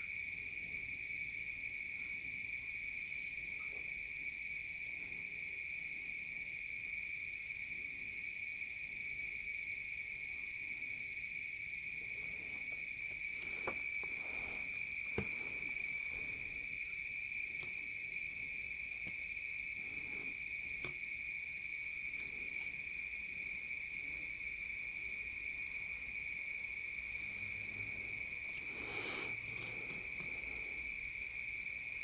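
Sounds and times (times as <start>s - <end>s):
high-pitched insect trill: 0.0s - 32.0s.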